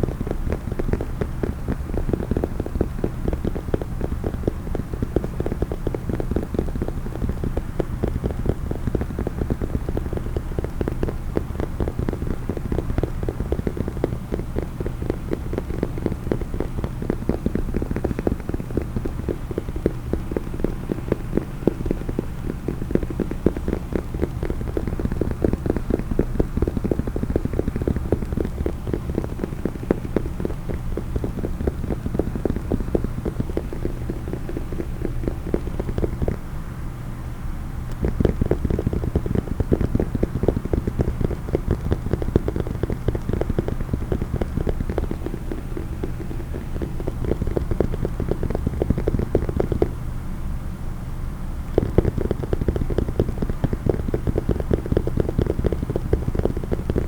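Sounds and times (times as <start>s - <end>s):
rapid tapping on a case: 0.0s - 36.6s, 37.8s - 50.1s, 51.6s - 57.0s.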